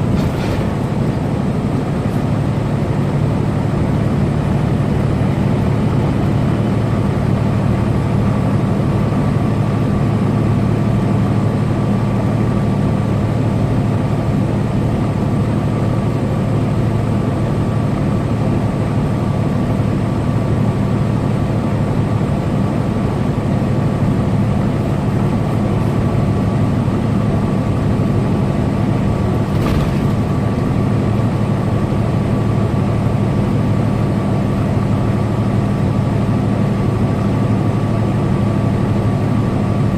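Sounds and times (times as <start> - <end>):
road and wind noise: 0.0 - 39.9
truck engine drone: 0.0 - 39.9.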